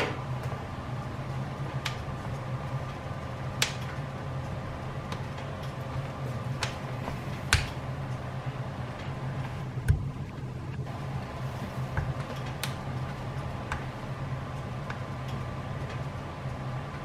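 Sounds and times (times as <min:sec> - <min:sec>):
steady low hum: 0:00.0 - 0:17.0
wood fire crackling: 0:00.0 - 0:17.0
fire pops: 0:01.6 - 0:16.1.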